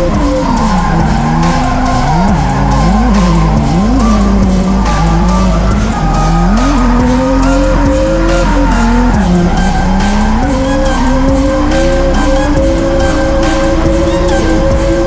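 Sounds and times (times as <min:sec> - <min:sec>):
car engine revving: 0:00.0 - 0:15.0
music playing: 0:00.0 - 0:15.0
tyres squealing: 0:00.0 - 0:15.0.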